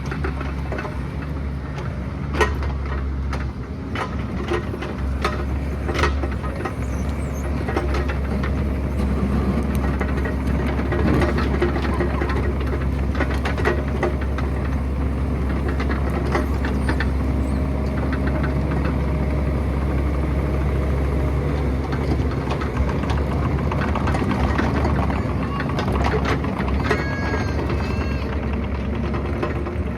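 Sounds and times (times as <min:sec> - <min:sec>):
diesel engine running under load: 0:00.0 - 0:29.9.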